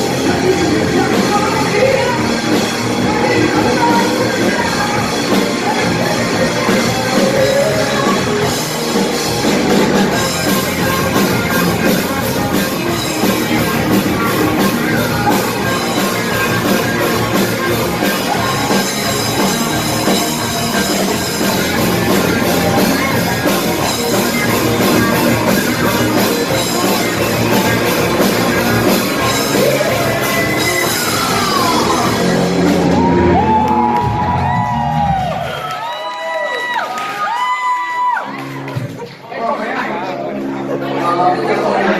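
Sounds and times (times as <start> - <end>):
rock band playing: 0.0 - 41.9.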